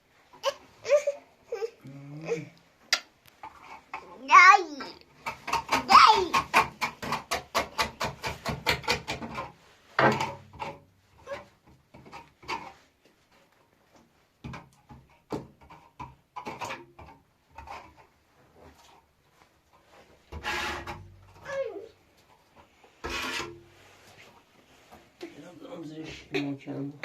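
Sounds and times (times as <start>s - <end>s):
scrapes and knocks on wood: 3.3s - 25.4s.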